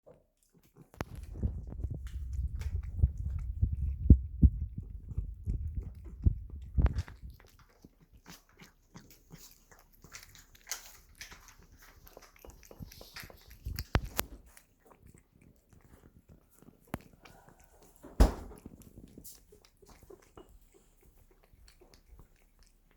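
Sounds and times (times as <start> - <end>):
cat licking and smacking: 0.2 - 22.9
cat crunching treats: 0.5 - 18.0, 18.6 - 22.9.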